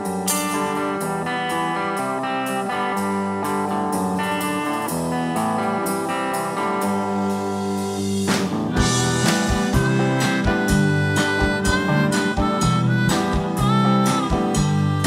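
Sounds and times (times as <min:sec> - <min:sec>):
blues-rock band playing: 0:00.0 - 0:15.0.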